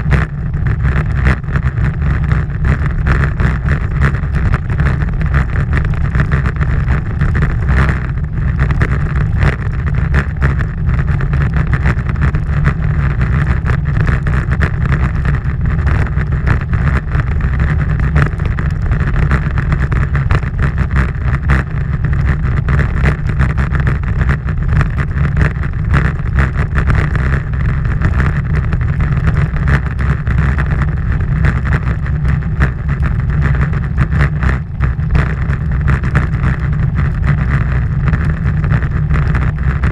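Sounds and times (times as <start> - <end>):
road noise on asphalt: 0.0 - 39.9.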